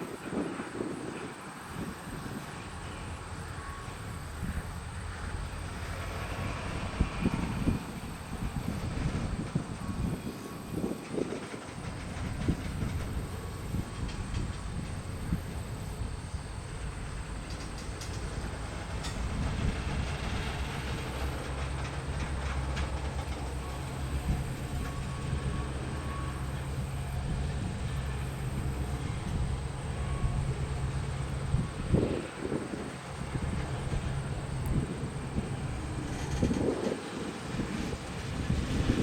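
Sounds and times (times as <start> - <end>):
diesel locomotive engine drone: 0.0 - 39.0
wheels clicking over rail joints: 0.3 - 39.0.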